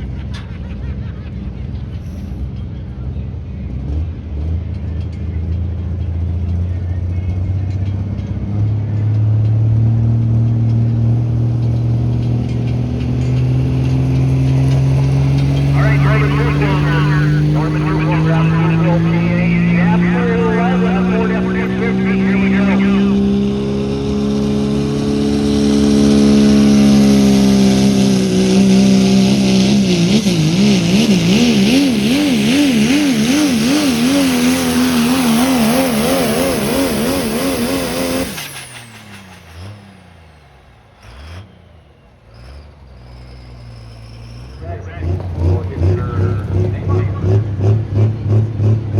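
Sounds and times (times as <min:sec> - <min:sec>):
truck engine at high revs: 0:00.0 - 0:48.9.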